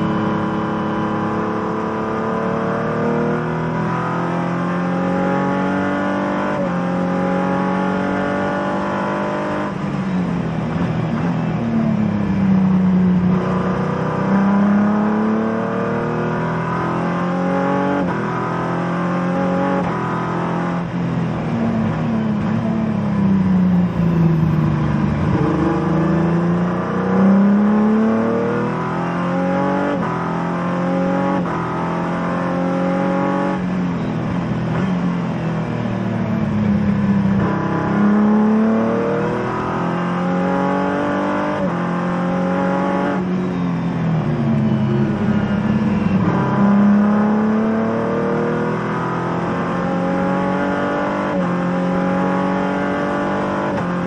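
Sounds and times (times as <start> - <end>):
race car engine revving: 0.0 - 12.0, 12.6 - 35.4, 36.1 - 54.0.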